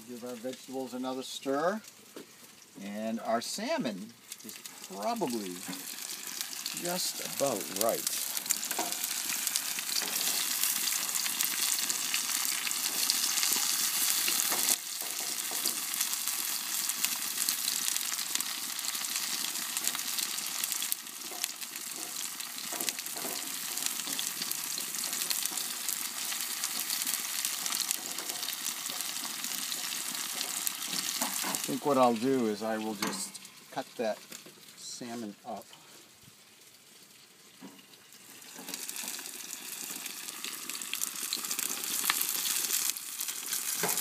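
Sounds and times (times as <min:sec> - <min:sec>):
food sizzling in hot pans: 0:00.0 - 0:44.0.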